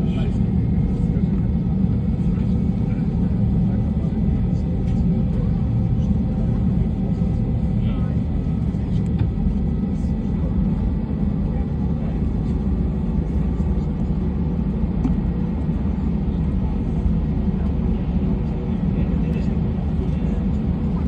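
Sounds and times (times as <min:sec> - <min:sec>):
airplane engine rumble in cabin: 0:00.0 - 0:21.0.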